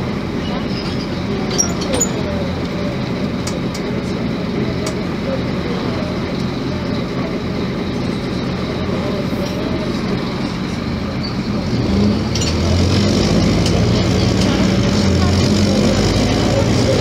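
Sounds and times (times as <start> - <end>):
bus diesel engine running: 0.0 - 17.0
road noise: 0.0 - 17.0.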